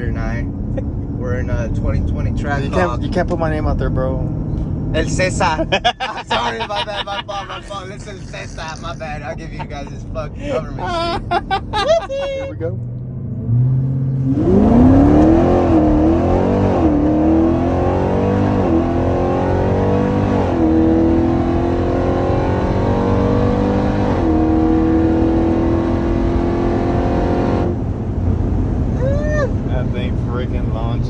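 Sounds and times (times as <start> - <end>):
car engine at full throttle: 0.0 - 31.0.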